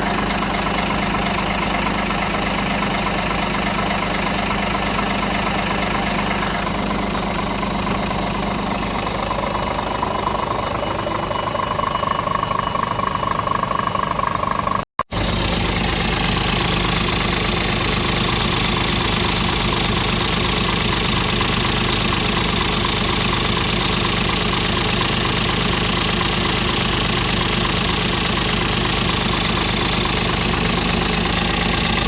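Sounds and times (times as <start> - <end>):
diesel truck engine idling: 0.0 - 32.0.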